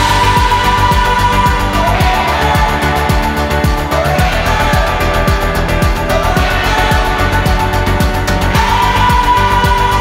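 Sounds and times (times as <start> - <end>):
kick drum beat: 0.0 - 10.0.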